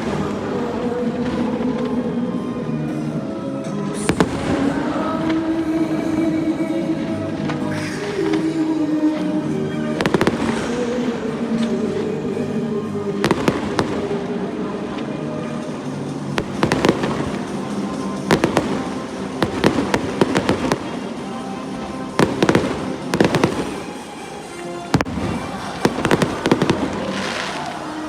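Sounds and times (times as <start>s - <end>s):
fireworks bursting: 0.0s - 28.0s
music playing: 0.0s - 28.0s.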